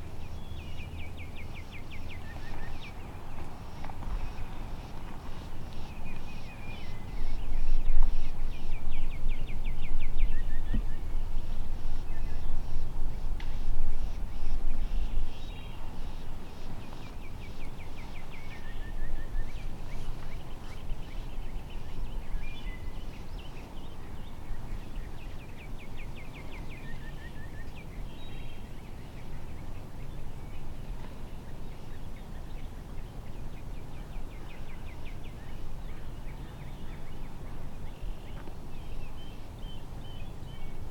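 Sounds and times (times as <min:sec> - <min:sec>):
low rumble on microphone: 0:00.0 - 0:40.9.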